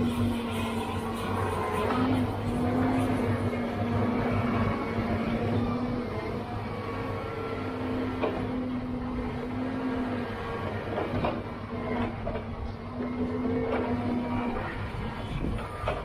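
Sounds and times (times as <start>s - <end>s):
hydraulic whine: 0.0s - 16.0s.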